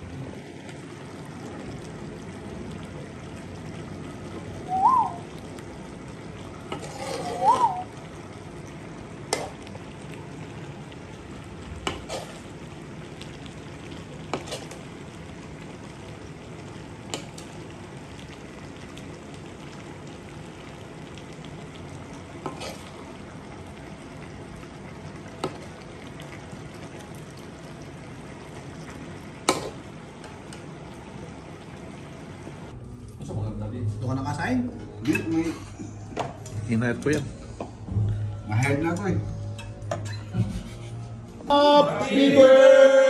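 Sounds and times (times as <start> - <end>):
food sizzling in a wok: 0.0 - 32.8, 34.3 - 43.0.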